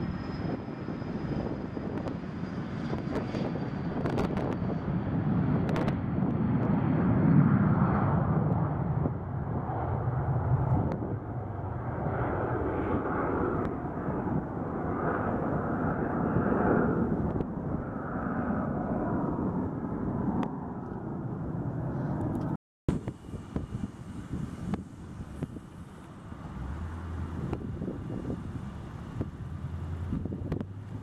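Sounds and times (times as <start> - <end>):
jet engines taking off: 0.0 - 31.0.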